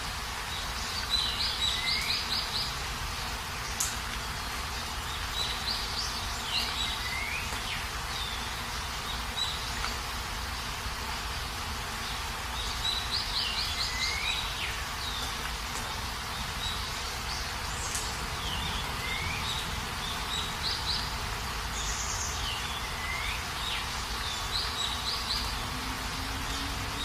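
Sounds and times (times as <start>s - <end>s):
heavy rain: 0.0s - 27.0s
bird chirping: 0.5s - 2.8s, 5.0s - 10.0s, 12.0s - 27.0s.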